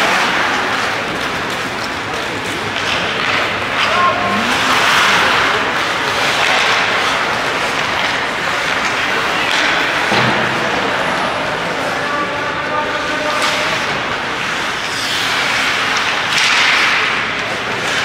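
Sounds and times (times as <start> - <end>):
skates scraping on ice: 0.0 - 10.1, 13.0 - 18.0
murmur of spectators: 0.0 - 18.0.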